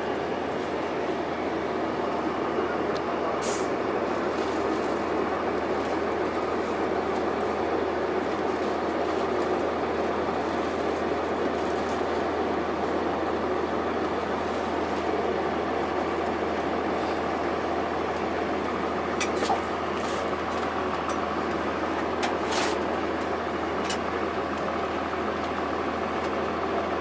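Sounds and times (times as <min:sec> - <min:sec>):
bus diesel and road noise: 0:00.0 - 0:27.0.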